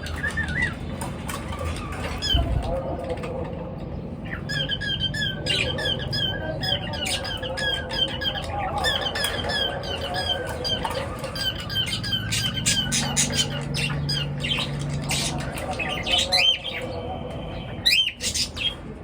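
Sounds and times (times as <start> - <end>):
small birds chirping and squawking: 0.0 - 19.0.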